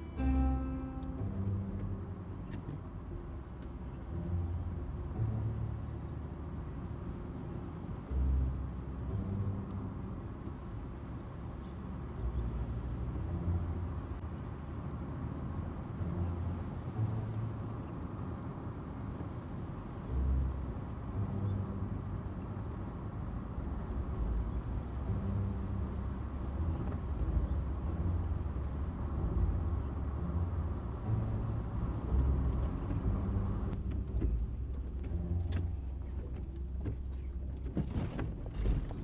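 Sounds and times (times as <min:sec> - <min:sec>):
car interior road rumble: 0:00.0 - 0:39.0.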